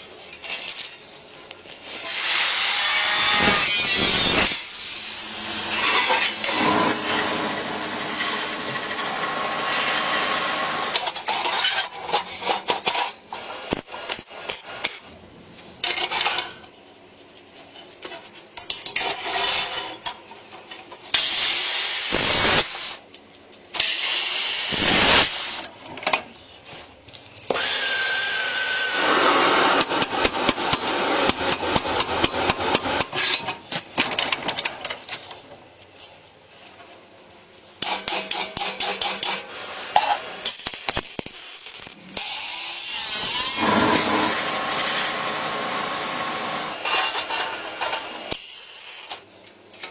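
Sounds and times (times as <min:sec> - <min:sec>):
tools cutting and grinding metal: 0:01.8 - 0:15.1, 0:18.6 - 0:26.2, 0:27.4 - 0:36.2, 0:37.8 - 0:49.9.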